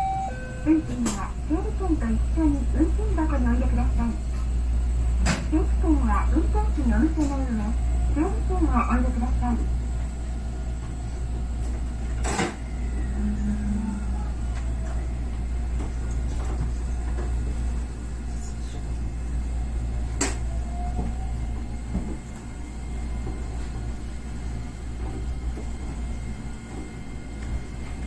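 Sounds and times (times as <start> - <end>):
electric railcar humming: 0.0 - 28.0.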